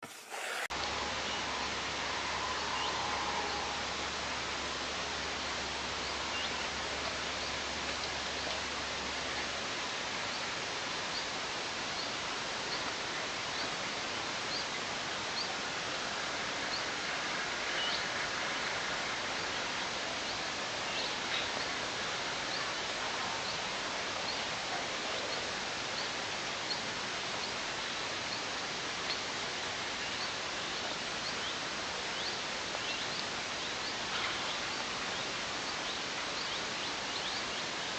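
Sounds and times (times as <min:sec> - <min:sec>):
wind in pine forest: 0:00.0 - 0:37.9.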